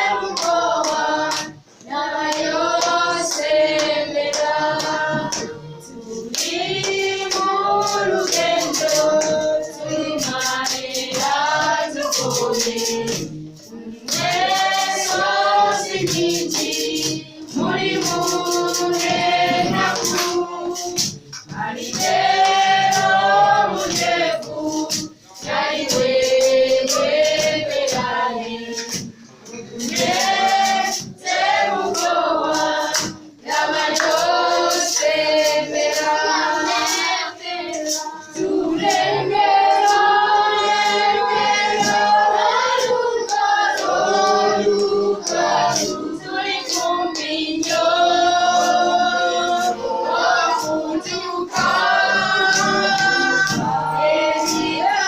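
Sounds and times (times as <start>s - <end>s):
choir singing a gospel song: 0.0s - 55.0s
steady percussion: 0.0s - 55.0s.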